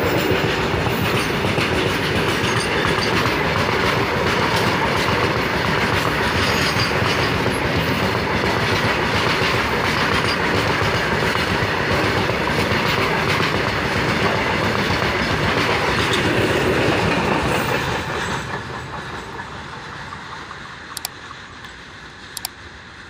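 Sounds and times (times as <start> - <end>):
train wheels rolling past: 0.0 - 23.0.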